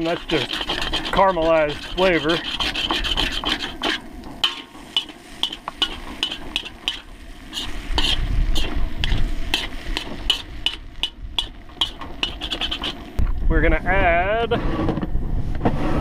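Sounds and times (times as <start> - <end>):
metal spoon scraping a pan: 0.0 - 13.2
rice frying: 0.0 - 13.2.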